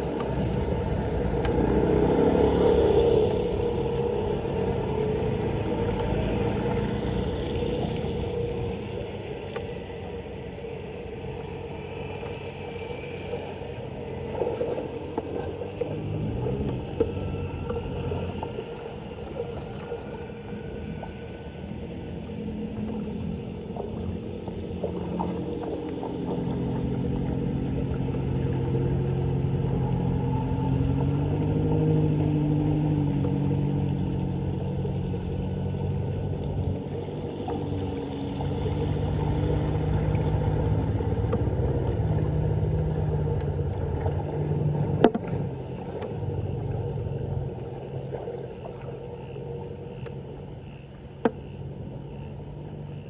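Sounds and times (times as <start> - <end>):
floodwater gurgling down drain: 0.0 - 53.0.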